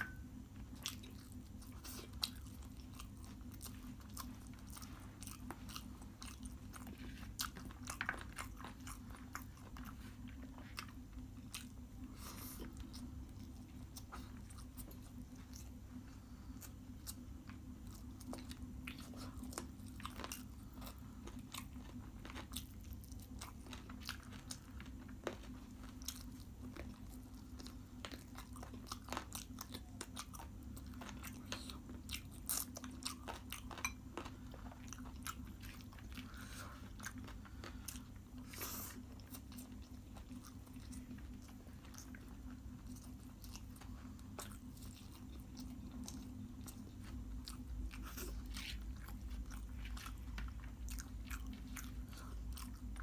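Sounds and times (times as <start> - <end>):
low hum: 0.0 - 53.0
person chewing food: 0.0 - 53.0.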